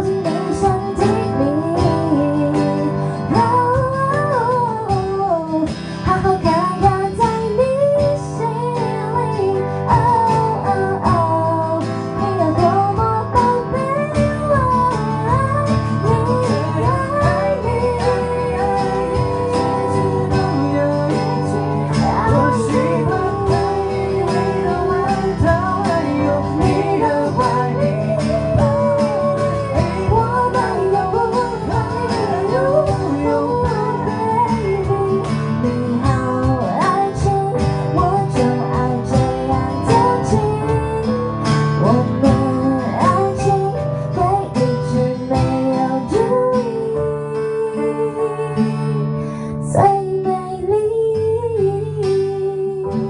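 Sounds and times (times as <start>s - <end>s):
cajon beat: 0.0s - 49.2s
acoustic guitar: 0.0s - 53.0s
woman singing lead: 0.0s - 53.0s.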